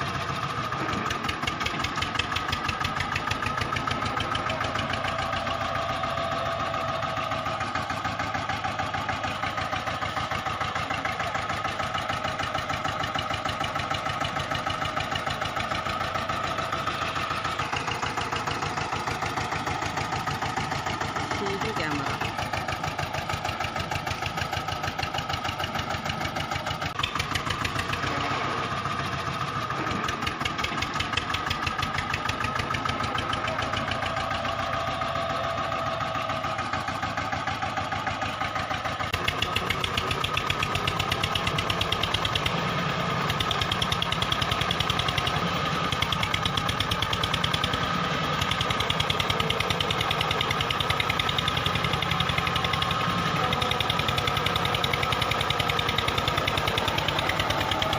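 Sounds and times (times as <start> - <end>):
tractor engine chugging: 0.0 - 57.9.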